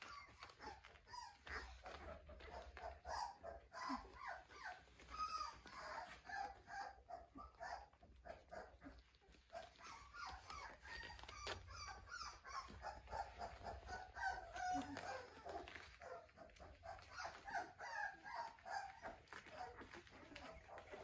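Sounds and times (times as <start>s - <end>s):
puppies squeaking and whining: 0.0s - 21.0s.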